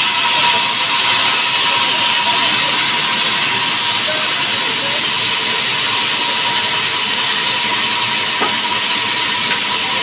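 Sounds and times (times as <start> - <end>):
band saw cutting a log: 0.0 - 10.0.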